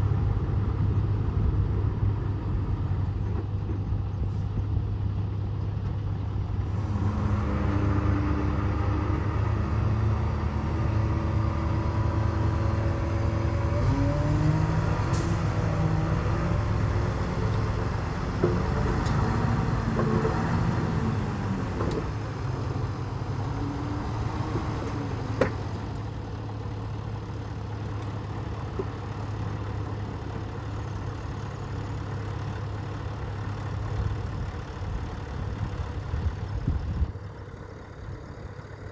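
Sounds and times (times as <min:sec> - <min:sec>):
truck engines running: 0:00.0 - 0:38.9.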